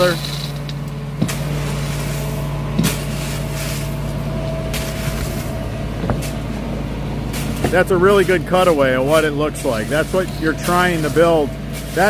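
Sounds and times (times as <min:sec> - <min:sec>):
shovel scraping in gravel: 0:00.0 - 0:00.7, 0:01.3 - 0:12.0.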